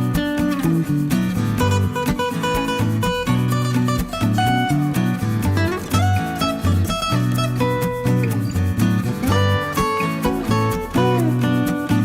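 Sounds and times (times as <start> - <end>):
acoustic guitar music with beat: 0.0 - 12.0.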